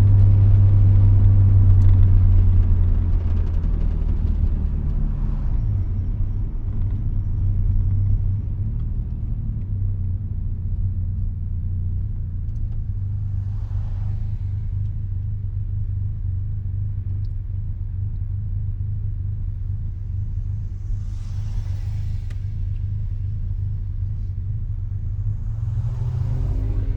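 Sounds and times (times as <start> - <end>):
rotary engine droning: 0.0 - 9.6, 12.0 - 26.9.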